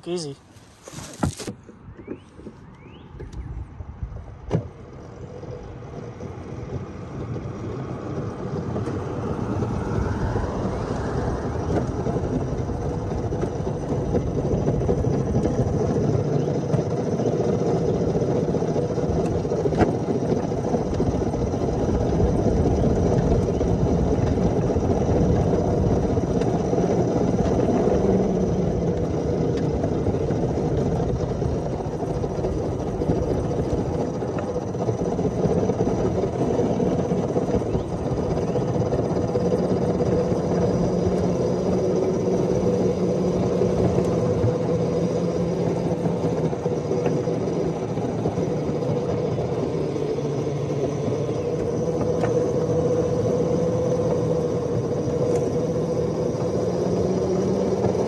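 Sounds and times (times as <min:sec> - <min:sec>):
miniature train wheels rumbling: 0:04.7 - 0:58.0.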